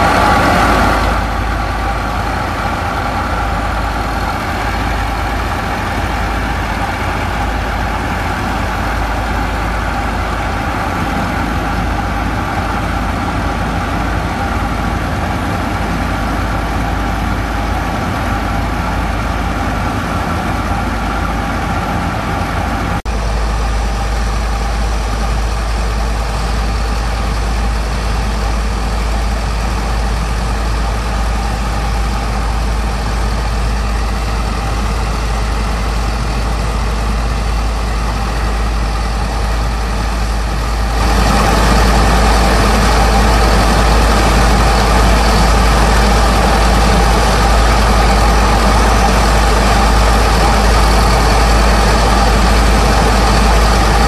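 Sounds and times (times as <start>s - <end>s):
diesel engine running pump: 0.0s - 54.0s.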